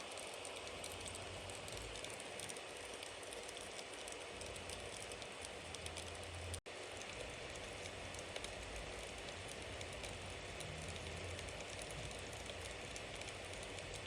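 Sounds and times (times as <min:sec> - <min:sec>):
bonfire crackling and hissing: 0:00.0 - 0:14.0.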